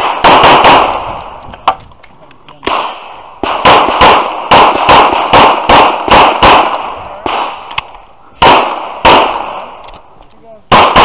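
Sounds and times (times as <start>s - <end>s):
pistol shots echoing: 0.0s - 1.4s, 2.6s - 11.0s.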